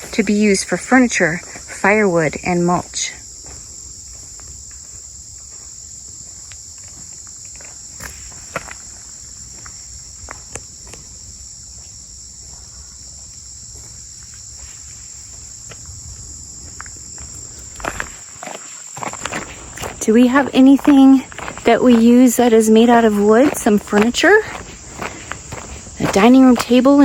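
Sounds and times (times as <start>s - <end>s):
footsteps on a trail: 0.0s - 27.0s
high-pitched insect chorus: 0.0s - 27.0s.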